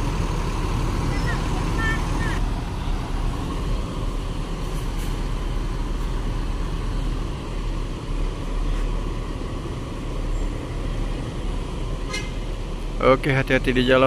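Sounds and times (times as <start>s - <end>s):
bus diesel engine rumbling: 0.0s - 14.0s.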